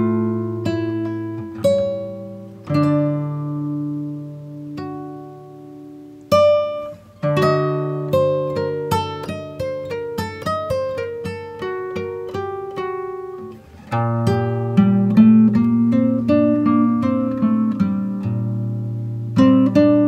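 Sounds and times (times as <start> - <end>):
acoustic guitar picked notes: 0.0 - 20.0
acoustic guitar strummed chords: 0.0 - 20.0.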